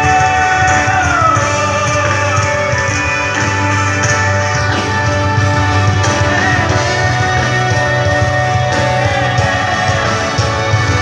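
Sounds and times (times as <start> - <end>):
guitar: 0.0 - 11.0
live band through loudspeakers: 0.0 - 11.0
strong bass line: 0.0 - 11.0.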